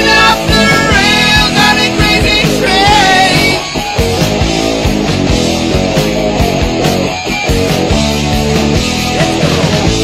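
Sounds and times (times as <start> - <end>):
heavy metal band music: 0.0 - 10.0.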